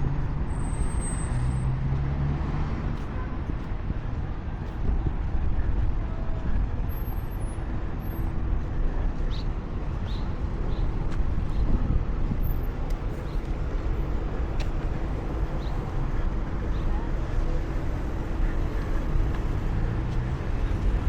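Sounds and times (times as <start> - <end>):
low rumble of passing traffic: 0.0 - 21.0.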